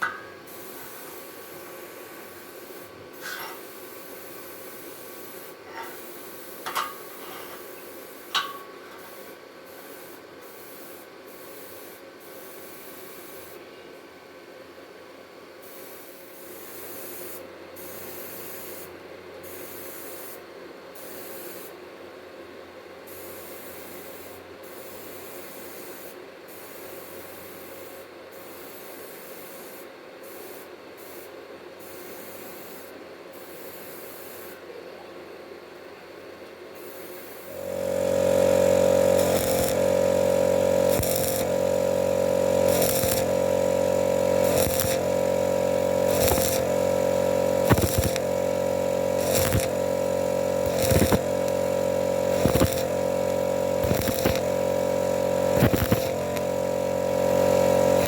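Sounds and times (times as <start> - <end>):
welding arc crackling hiss: 0.0 - 13.7, 15.6 - 21.9, 23.1 - 34.6, 36.7 - 58.0.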